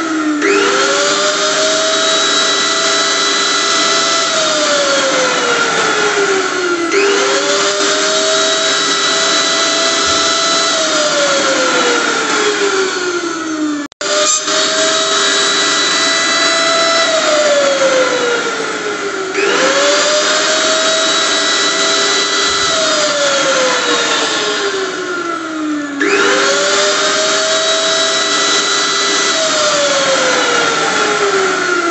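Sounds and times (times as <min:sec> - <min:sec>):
blender motor whining: 0:00.0 - 0:31.9.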